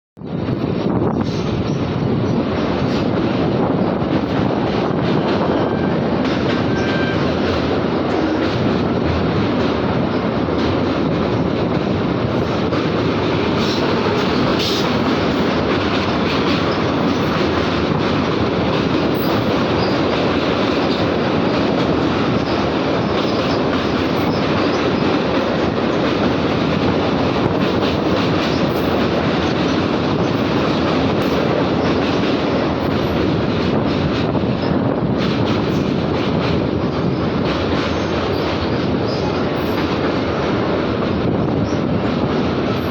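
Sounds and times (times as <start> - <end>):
train wheels rumbling on rails: 0.2 - 42.9.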